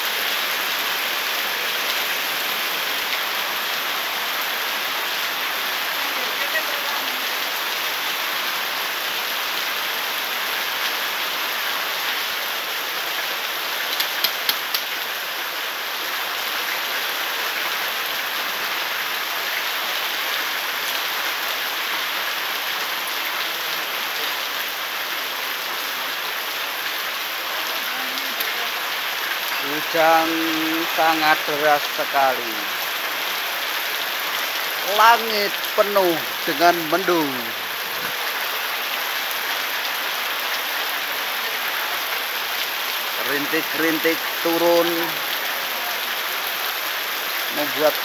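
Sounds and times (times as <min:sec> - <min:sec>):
heavy rain on wet pavement: 0:00.0 - 0:48.0.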